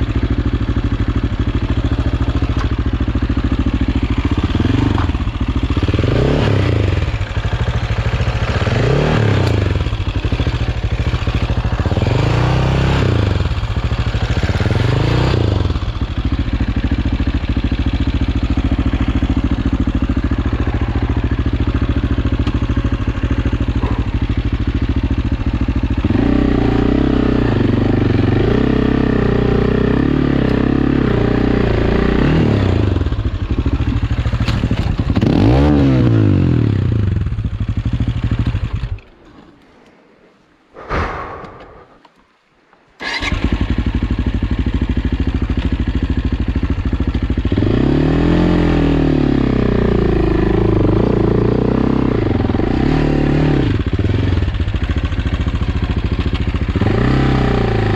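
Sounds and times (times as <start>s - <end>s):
motorcycle engine revving: 0.0s - 39.5s, 43.0s - 57.9s.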